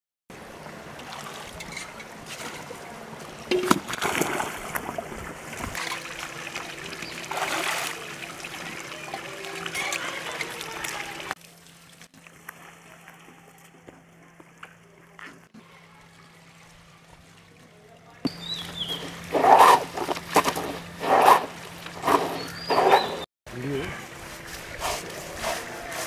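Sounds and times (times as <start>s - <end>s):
water sloshing and splashing: 0.3s - 14.6s, 16.3s - 23.3s.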